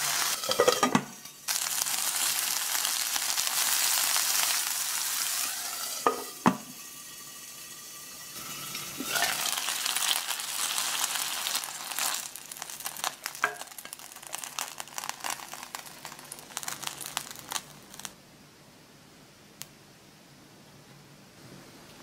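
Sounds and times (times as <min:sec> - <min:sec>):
meat frying in oil: 0:00.0 - 0:18.2.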